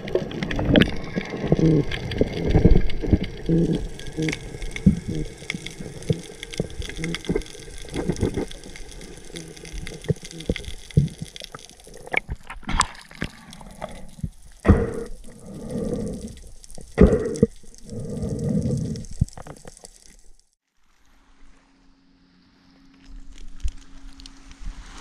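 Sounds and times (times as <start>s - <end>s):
water sloshing and gurgling: 0.0s - 20.6s.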